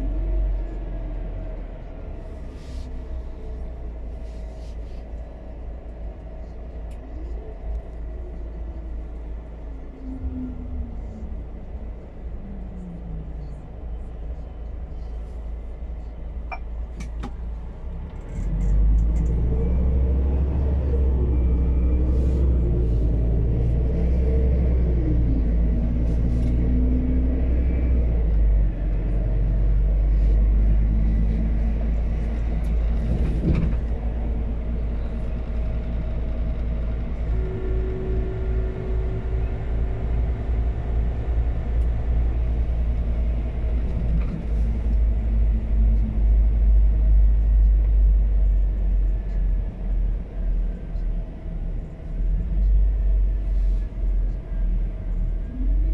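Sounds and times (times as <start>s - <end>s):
truck engine: 0.0s - 55.9s.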